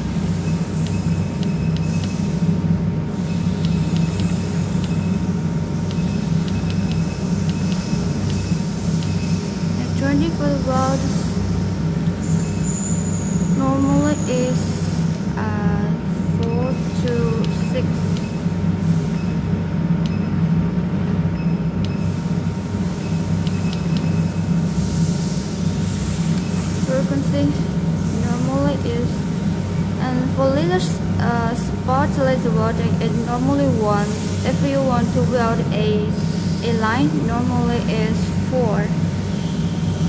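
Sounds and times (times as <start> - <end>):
laser welding machine humming: 0.0 - 40.0.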